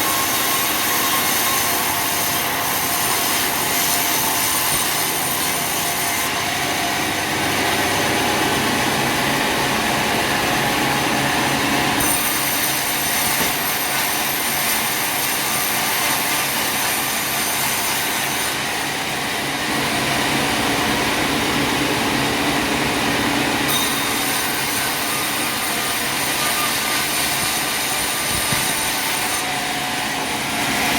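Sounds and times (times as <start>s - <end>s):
high machine whine: 0.0s - 30.9s
sawmill machinery sawing timber: 0.0s - 30.9s.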